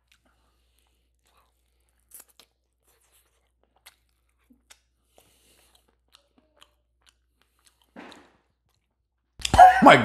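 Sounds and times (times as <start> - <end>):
faint chewing: 0.0 - 9.5.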